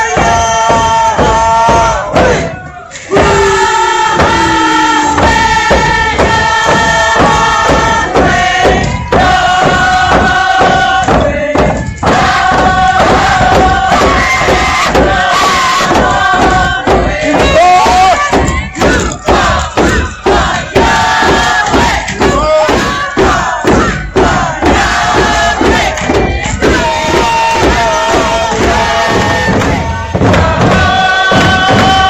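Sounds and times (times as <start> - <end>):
steady drumbeat: 0.0 - 32.0
voices chanting held notes: 0.0 - 32.0.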